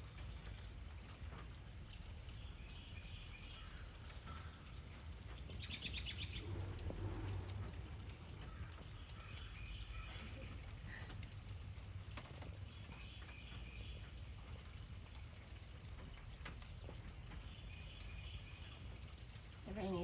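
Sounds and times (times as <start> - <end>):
songbirds chirping: 0.1 - 20.0.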